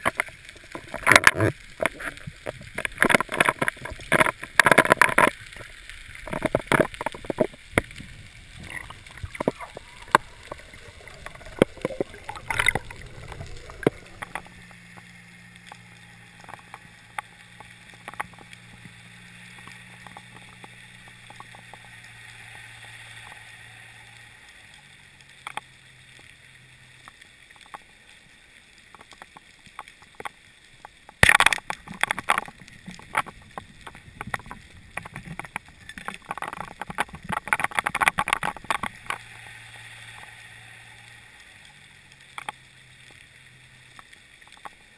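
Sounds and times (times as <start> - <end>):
crackling clicks: 0.0 - 44.9
faint clicks: 0.0 - 44.9
low underwater hum: 0.0 - 44.9.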